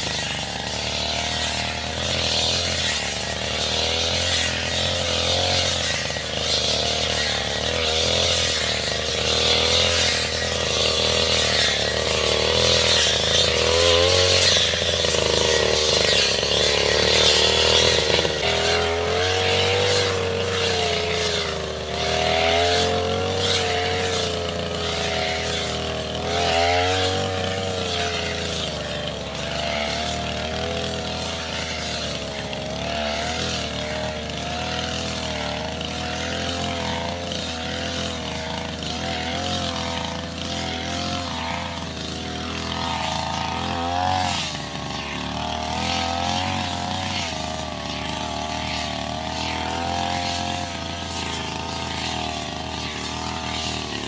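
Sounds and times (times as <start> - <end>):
brush cutter cutting grass: 0.0 - 54.0.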